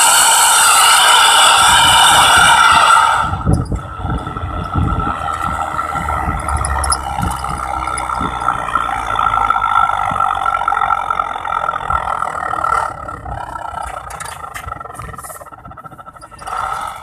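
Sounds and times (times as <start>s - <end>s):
pickup truck exhaust tone: 0.0s - 17.0s.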